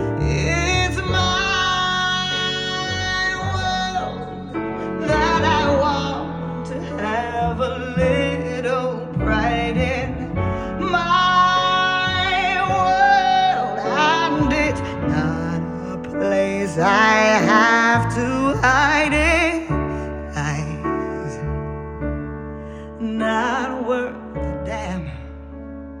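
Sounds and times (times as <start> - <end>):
person singing with vibrato: 0.0 - 21.5.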